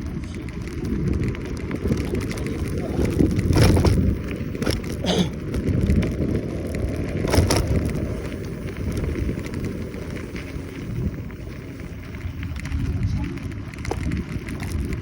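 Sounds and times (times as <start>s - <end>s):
wind and tyre rumble: 0.0s - 15.0s.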